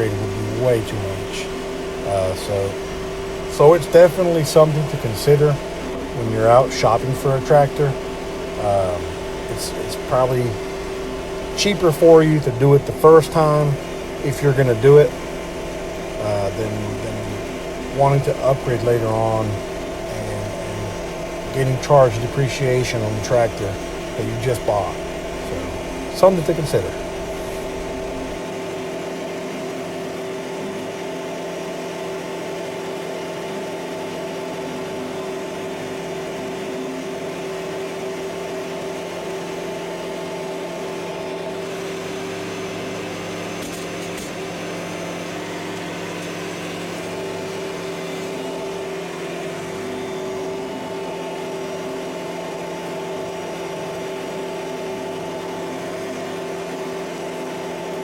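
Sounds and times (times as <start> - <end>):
tractor diesel engine running: 0.0 - 28.5, 37.9 - 58.0.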